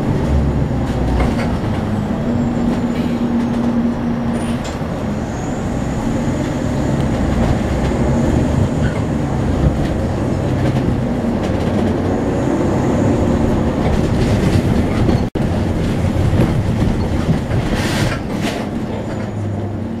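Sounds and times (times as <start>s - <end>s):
bus engine drone and road rumble: 0.0s - 20.0s.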